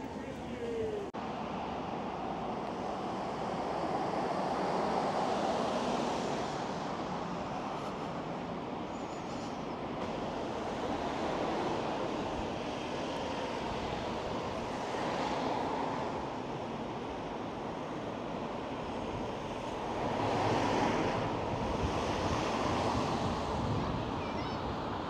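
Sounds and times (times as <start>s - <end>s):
traffic on wet road: 0.0s - 25.0s.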